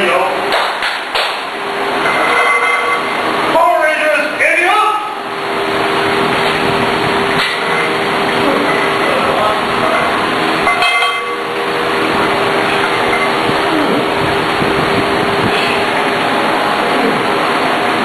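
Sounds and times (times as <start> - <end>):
fans whirring: 0.0 - 18.0.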